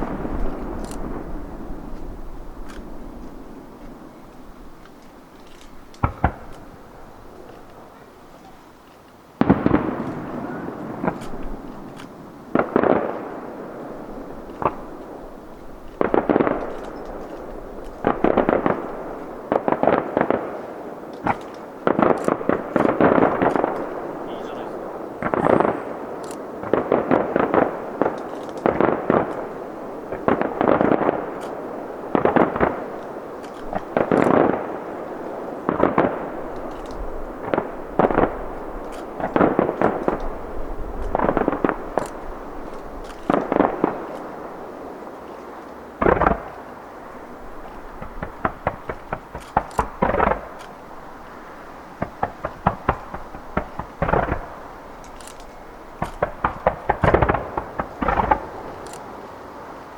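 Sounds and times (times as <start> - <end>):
crackling pops: 0.0 - 59.1
fireworks bursting: 0.0 - 59.9.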